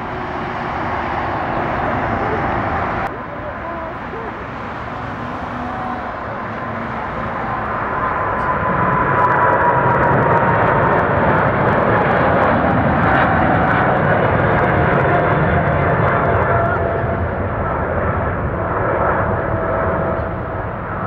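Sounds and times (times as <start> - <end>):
jet engines passing by: 0.0 - 21.0.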